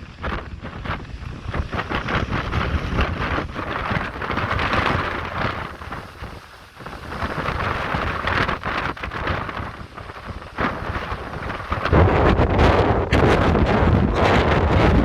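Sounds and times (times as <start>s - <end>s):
waves breaking against rocks: 0.0s - 15.0s
wind rumbling on microphone: 0.0s - 15.0s.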